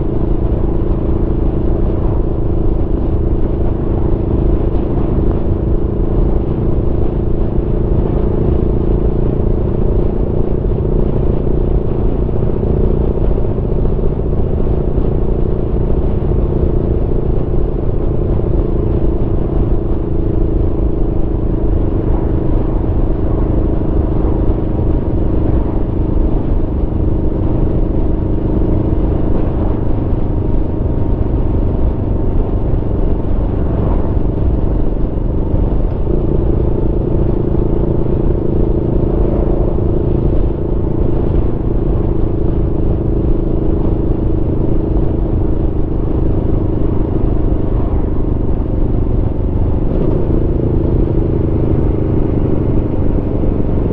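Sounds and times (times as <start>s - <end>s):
low rumble: 0.0s - 53.9s
motorcycle engine cruising: 0.0s - 53.9s.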